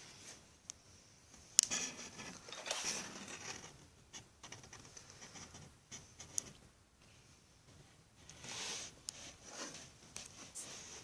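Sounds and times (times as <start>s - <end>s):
rustling and scraping: 1.3s - 11.0s.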